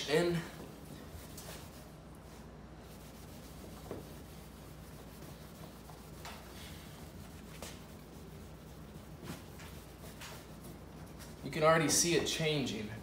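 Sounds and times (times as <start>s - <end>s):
low steady hum: 0.0s - 13.0s
cloth rag scrubbing: 0.6s - 11.6s.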